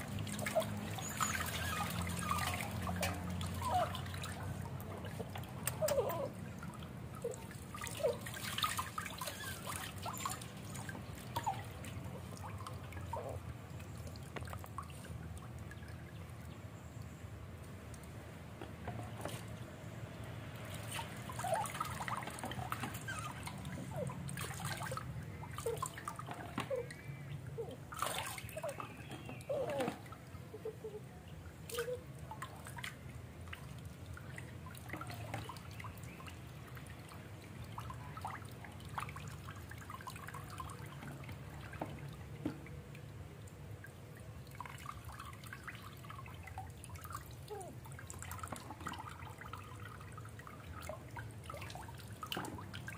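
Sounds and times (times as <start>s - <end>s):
water dripping into a basin: 0.0s - 52.9s
water pouring over a puppy: 0.0s - 52.9s.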